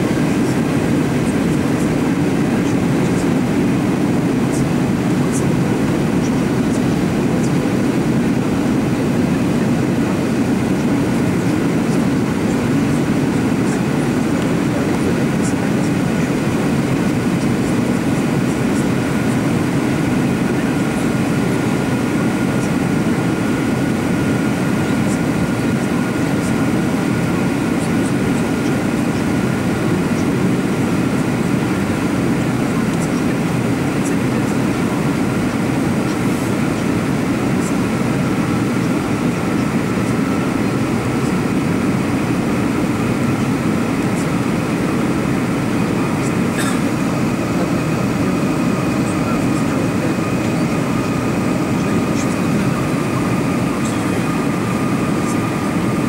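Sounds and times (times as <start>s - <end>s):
faint steady whine: 0.0s - 56.0s.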